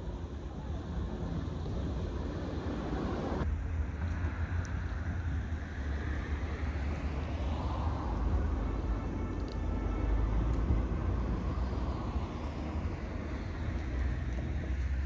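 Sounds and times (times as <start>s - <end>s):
distant road traffic hiss: 0.0s - 15.0s
wind rumble on microphone: 0.0s - 15.0s.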